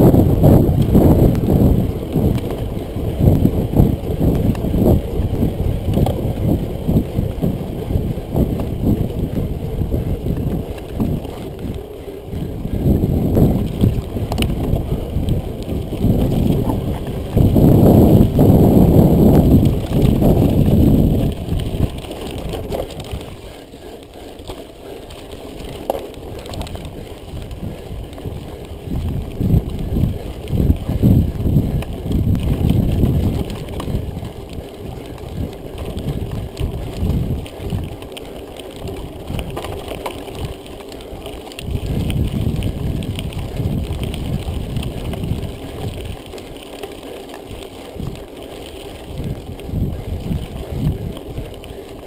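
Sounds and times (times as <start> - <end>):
bike tyres rumbling on dirt: 0.0 - 52.0
wind buffeting microphone: 0.0 - 52.0.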